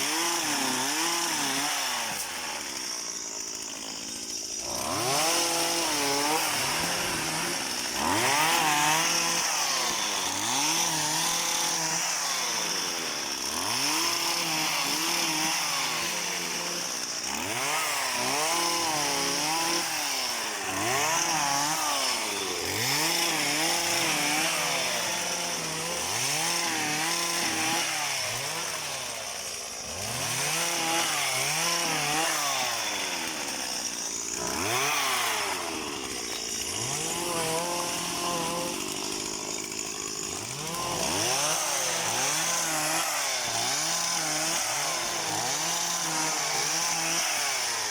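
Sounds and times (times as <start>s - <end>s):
small engine revving: 4.5s - 47.9s.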